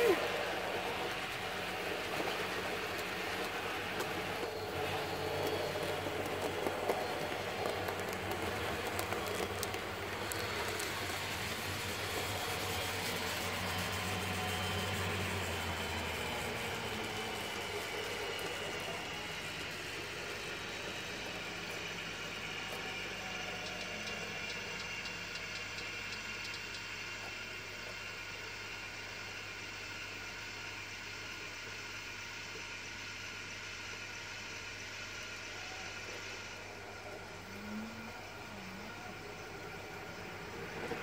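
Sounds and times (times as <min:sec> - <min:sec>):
train wheels rumbling on track: 0:00.0 - 0:29.9, 0:33.8 - 0:41.0
electric motor hum: 0:00.0 - 0:41.0
faint whine: 0:00.0 - 0:41.0.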